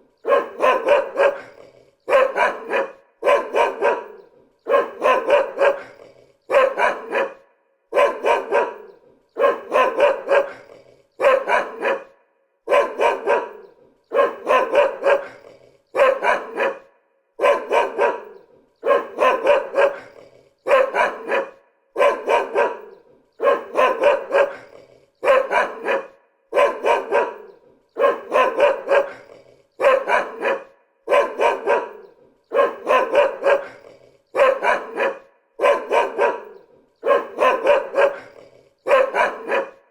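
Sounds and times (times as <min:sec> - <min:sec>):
dog barking: 0:00.0 - 0:39.9.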